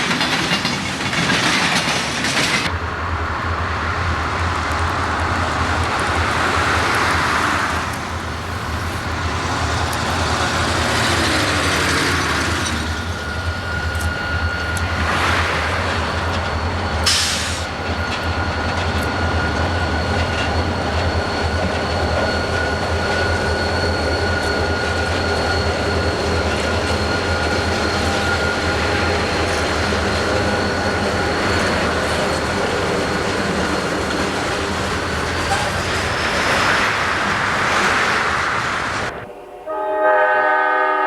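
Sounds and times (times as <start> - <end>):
freight train rumbling past: 0.0 - 41.0
train wheels squealing: 5.9 - 39.3.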